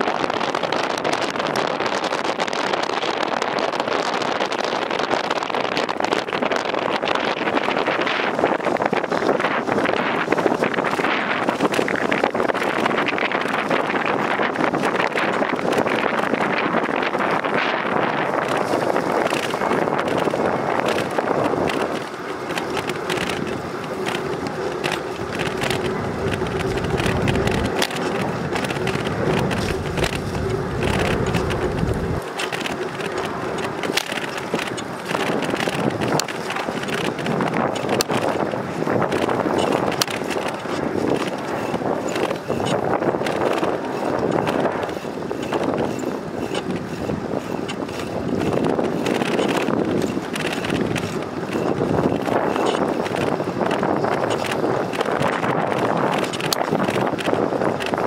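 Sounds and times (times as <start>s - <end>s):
bicycle tyres rolling on concrete: 0.0s - 58.0s
wind buffeting microphone: 0.0s - 58.0s
bike rattling clicks: 3.8s - 58.0s.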